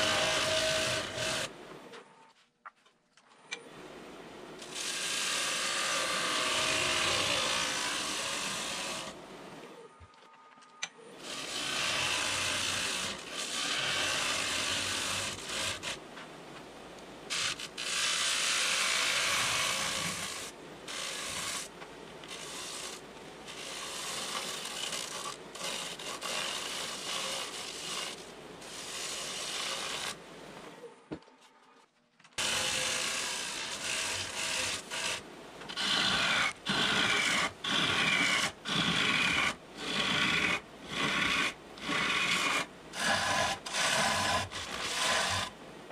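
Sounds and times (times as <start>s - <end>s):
lathe tool scraping wood: 0.0s - 1.5s, 4.6s - 9.2s, 11.1s - 16.0s, 17.3s - 30.2s, 32.4s - 45.6s.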